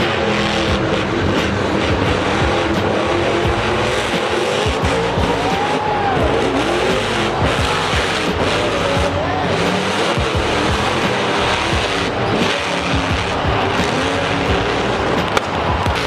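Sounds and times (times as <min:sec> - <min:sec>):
monster truck engines revving: 0:00.0 - 0:16.0
music: 0:00.0 - 0:16.0.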